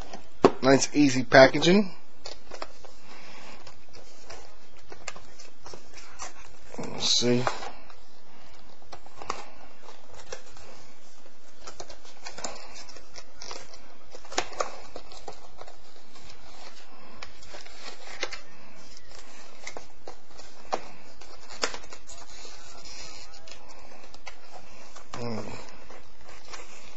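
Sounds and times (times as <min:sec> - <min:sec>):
packaging crinkling and scraping: 0:01.4 - 0:26.9.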